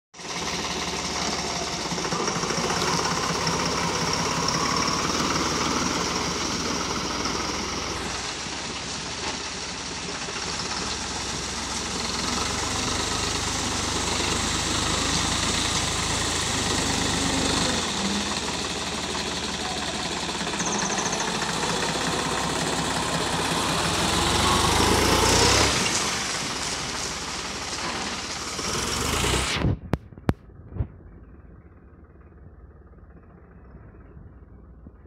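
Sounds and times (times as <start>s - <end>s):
tractor diesel engine running: 0.2s - 35.0s.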